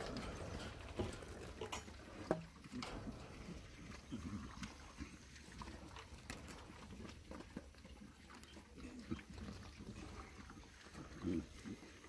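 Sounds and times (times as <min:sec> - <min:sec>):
pigs grunting: 0:00.0 - 0:12.0.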